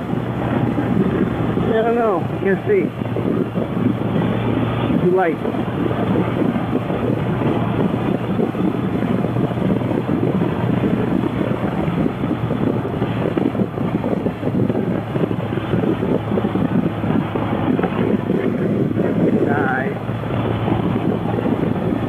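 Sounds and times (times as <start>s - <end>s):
motorcycle engine drone: 0.0s - 22.0s
wind buffeting microphone: 0.0s - 22.0s.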